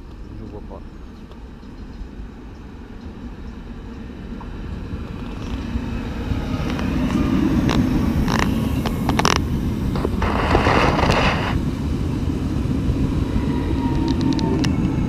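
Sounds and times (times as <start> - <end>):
train rumble: 0.0 - 15.0
wheel-on-rail noise: 0.0 - 15.0.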